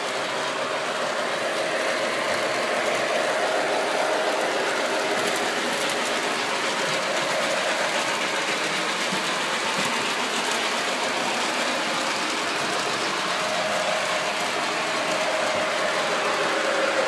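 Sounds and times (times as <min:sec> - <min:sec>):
model train rumbling on rails: 0:00.0 - 0:17.0.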